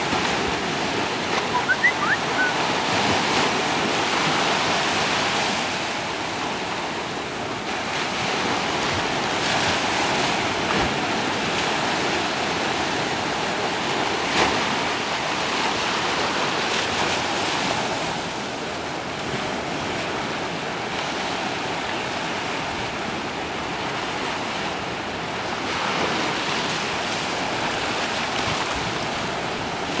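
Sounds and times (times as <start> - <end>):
ocean surf breaking on rocks: 0.0 - 30.0.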